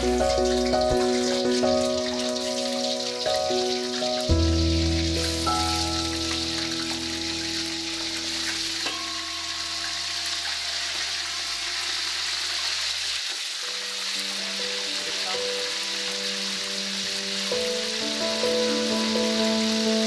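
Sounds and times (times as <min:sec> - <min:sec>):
background music: 0:00.0 - 0:11.9, 0:13.7 - 0:20.0
meat sizzling in hot oil: 0:00.0 - 0:20.0.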